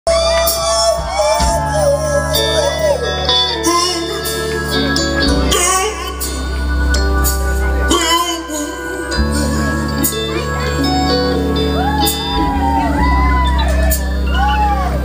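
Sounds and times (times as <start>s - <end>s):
live soul band playing: 0.0s - 15.0s
person singing: 0.0s - 15.0s.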